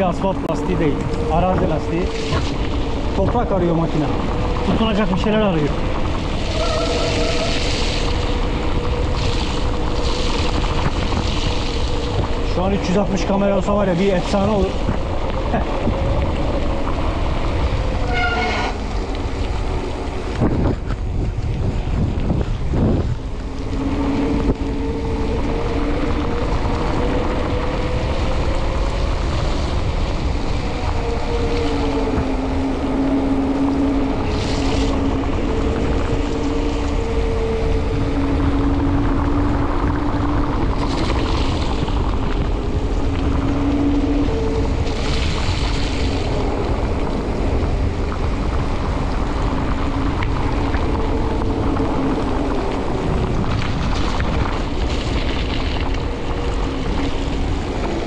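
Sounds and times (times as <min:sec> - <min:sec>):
bike tyres humming on asphalt: 0:00.0 - 0:58.0
wind on microphone: 0:00.0 - 0:58.0.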